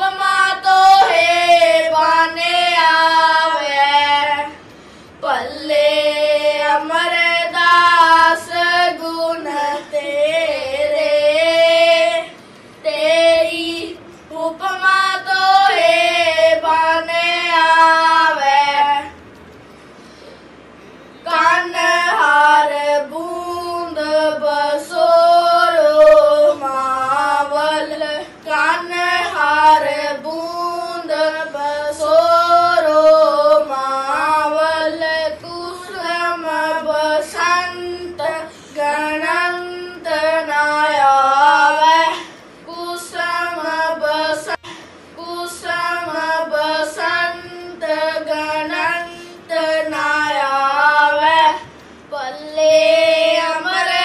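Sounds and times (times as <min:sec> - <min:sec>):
boys singing a hymn: 0:00.0 - 0:19.3, 0:20.7 - 0:54.0.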